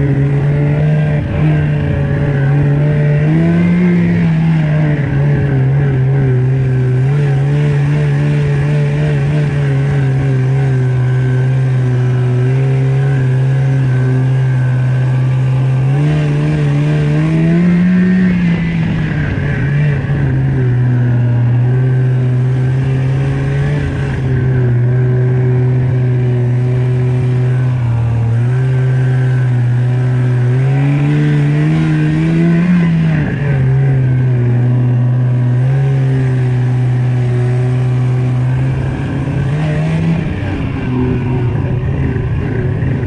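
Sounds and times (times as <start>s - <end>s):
snowmobile engine under throttle: 0.0s - 43.0s.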